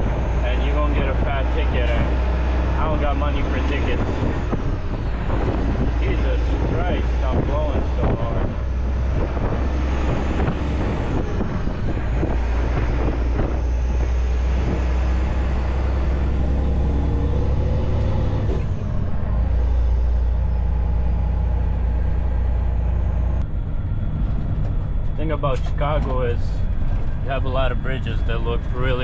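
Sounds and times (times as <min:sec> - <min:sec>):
diesel truck engine drone: 0:00.0 - 0:29.0.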